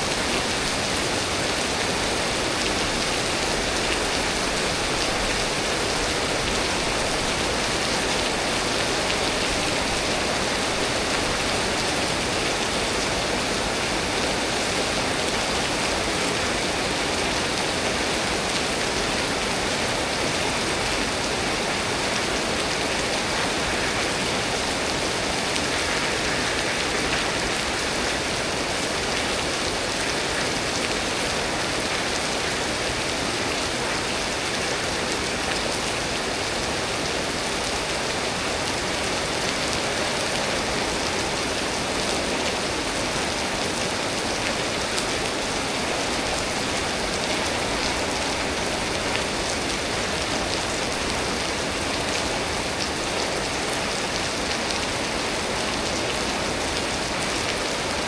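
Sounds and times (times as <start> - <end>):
steady rain on surfaces: 0.0 - 58.0.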